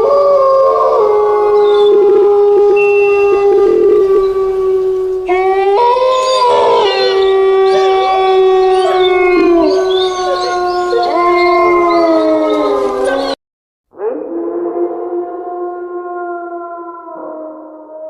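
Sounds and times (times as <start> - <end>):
dogs howling together: 0.0 - 13.4, 14.0 - 18.0.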